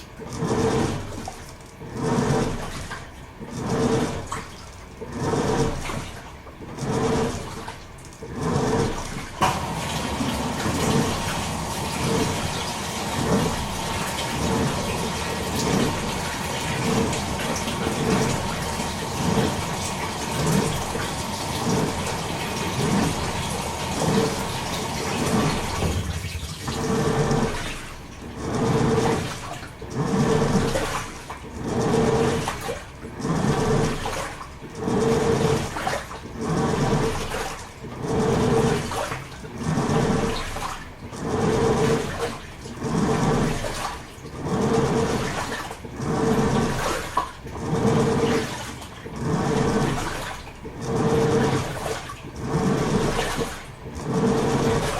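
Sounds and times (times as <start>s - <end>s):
washing machine churning: 0.0s - 54.9s
water rushing into tub: 0.0s - 54.9s.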